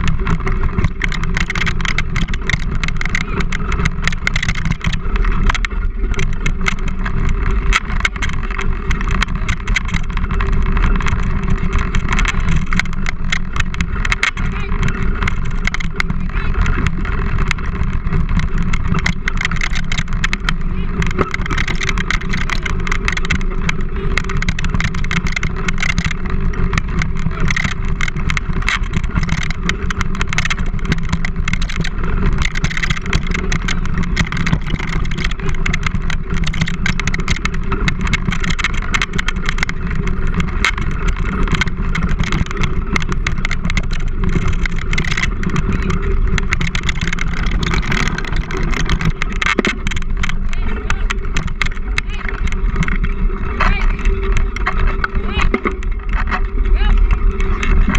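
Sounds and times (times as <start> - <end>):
wheeled rig rumbling and rattling: 0.0 - 57.9.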